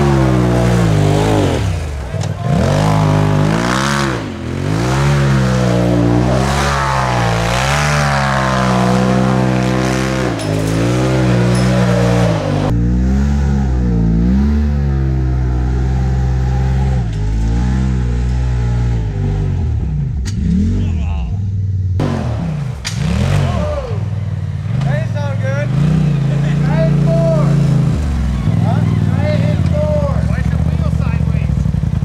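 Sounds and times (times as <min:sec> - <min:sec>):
engine revving hard: 0:00.0 - 0:21.0, 0:22.0 - 0:30.9.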